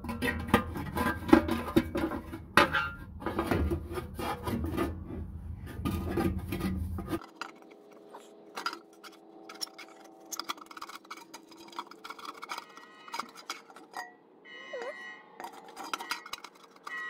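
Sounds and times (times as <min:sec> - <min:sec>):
metal cover scraping and clattering: 0:00.0 - 0:14.3, 0:15.4 - 0:17.0.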